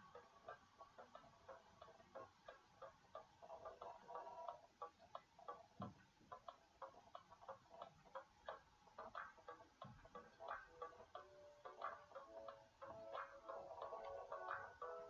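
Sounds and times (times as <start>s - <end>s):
faint music with plucked notes: 0.0s - 15.0s.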